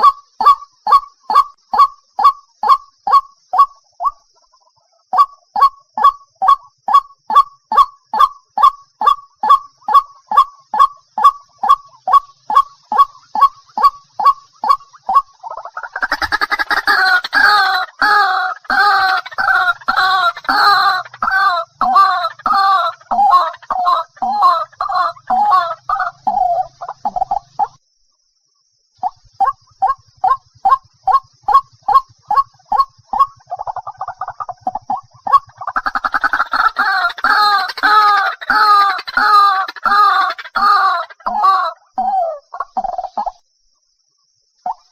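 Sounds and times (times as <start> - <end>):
waterhen calling: 0.0 - 4.2, 8.2 - 27.8, 29.0 - 43.3.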